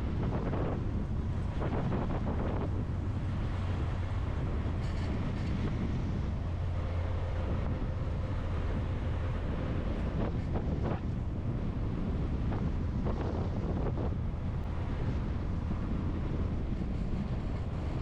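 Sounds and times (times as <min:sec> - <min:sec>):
vehicle road rumble: 0:00.0 - 0:18.0
wind noise: 0:00.0 - 0:18.0.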